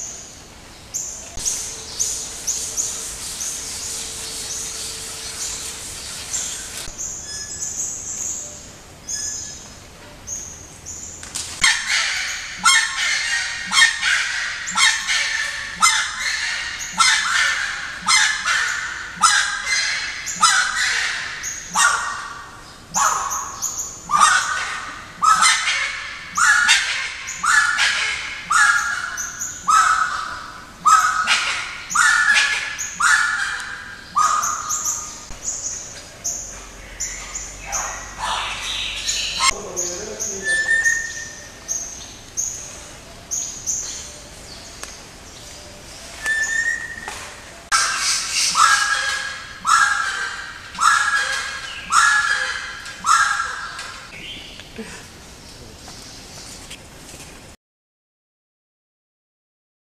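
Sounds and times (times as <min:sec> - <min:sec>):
small birds chirping: 0:00.0 - 0:56.9
rail bird calling: 0:01.0 - 0:54.8.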